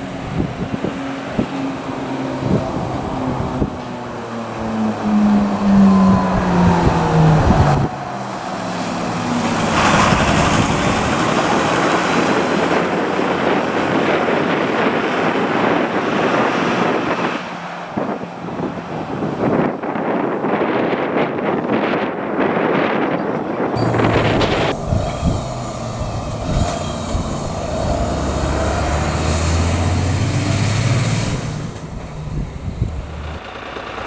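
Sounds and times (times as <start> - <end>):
fire engine driving past: 0.0 - 21.2, 23.6 - 34.0
road noise and wind on microphone: 0.0 - 34.0.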